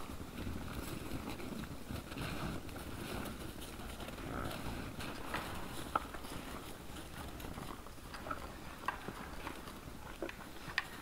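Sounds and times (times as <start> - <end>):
boars crunching and chewing: 0.0 - 11.0
rustle of rooting and shuffling: 0.0 - 11.0.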